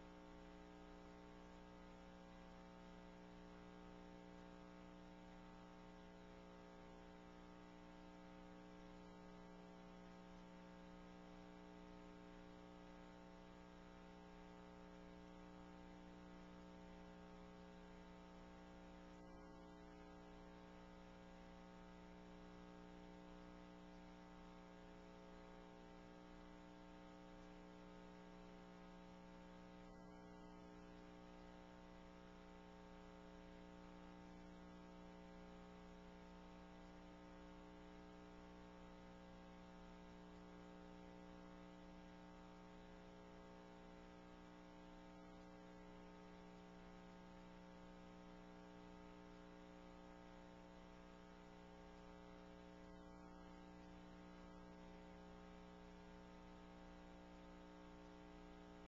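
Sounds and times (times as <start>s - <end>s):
faint electrical hum: 0.0s - 58.9s.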